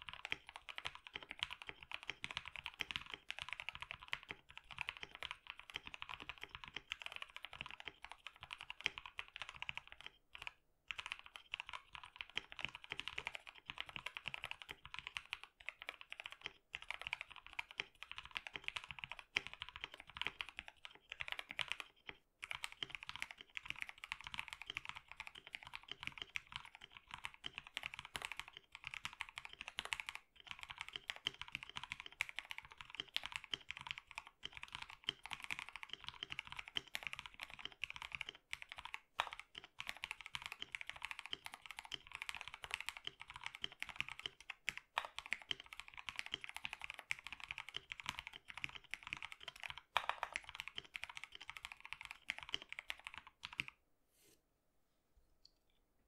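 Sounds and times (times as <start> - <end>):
fast mechanical keyboard typing: 0.0 - 53.8.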